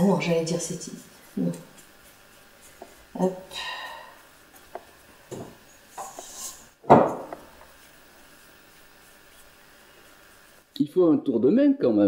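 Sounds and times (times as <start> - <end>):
hands rubbing dough: 0.0 - 10.7.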